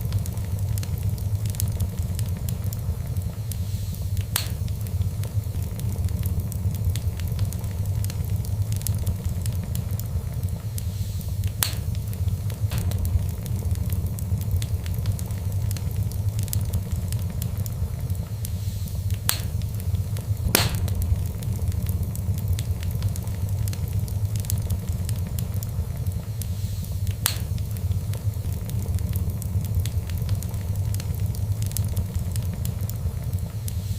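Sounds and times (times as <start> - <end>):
steady low rumble: 0.0 - 33.9
wood fire crackling: 0.0 - 33.9.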